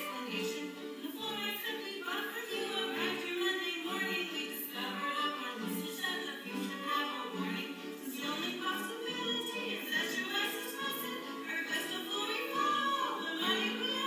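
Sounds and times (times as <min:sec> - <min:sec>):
musical accompaniment: 0:00.0 - 0:14.0
voices singing held notes: 0:00.0 - 0:14.0.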